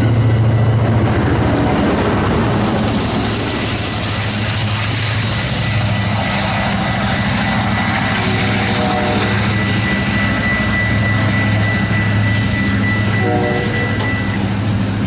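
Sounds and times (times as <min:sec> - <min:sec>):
diesel locomotive engine humming: 0:00.0 - 0:15.0
high whine: 0:00.0 - 0:15.0.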